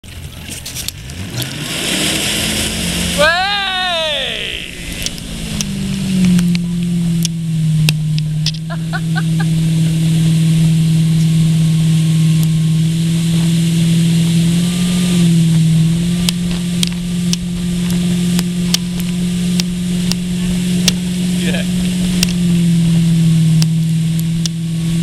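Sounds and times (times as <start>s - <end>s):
boat engine droning: 0.1s - 25.0s.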